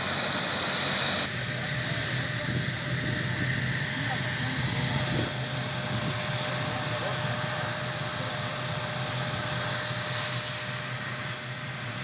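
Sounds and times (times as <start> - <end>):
helicopter engine running: 0.0 - 12.0.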